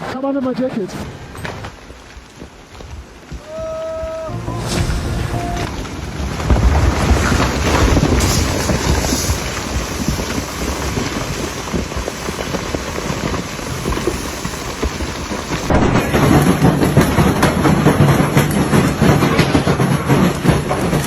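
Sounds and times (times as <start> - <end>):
heavy rain downpour: 0.0 - 21.0
wind rumbling on microphone: 1.0 - 21.0.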